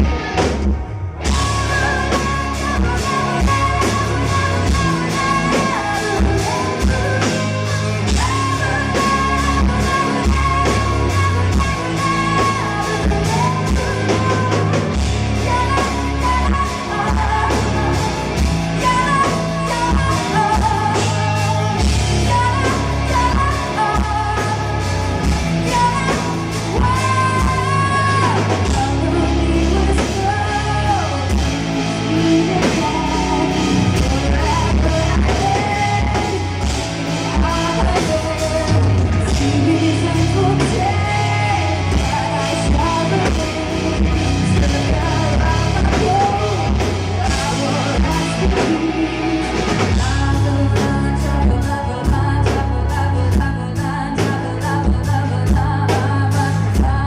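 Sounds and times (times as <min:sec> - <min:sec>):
live folk-metal band: 0:00.0 - 0:57.0
woman singing: 0:01.2 - 0:57.0.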